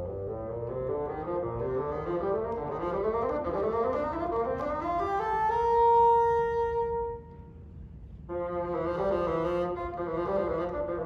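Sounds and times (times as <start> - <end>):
bassoon playing: 0.0 - 7.4, 8.3 - 11.0.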